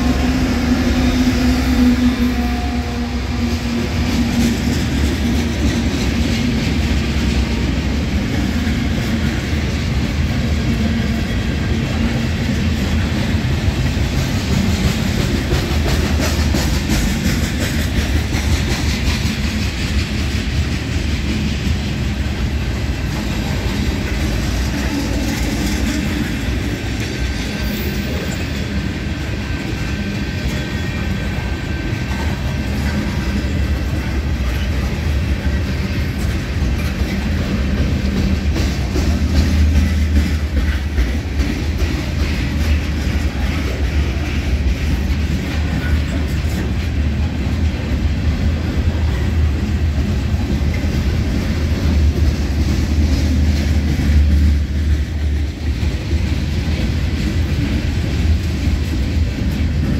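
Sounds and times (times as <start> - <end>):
freight train rumbling past: 0.0 - 59.9
wheels clicking over rail joints: 0.0 - 59.9.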